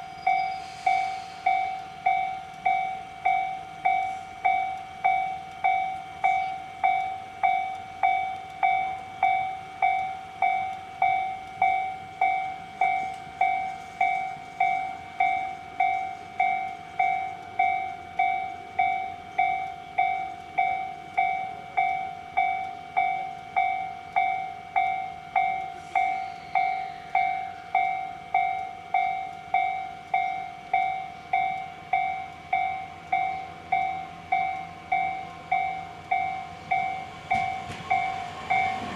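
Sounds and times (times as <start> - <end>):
faint train passing: 0.0 - 38.9
level-crossing alarm dinging: 0.0 - 38.9.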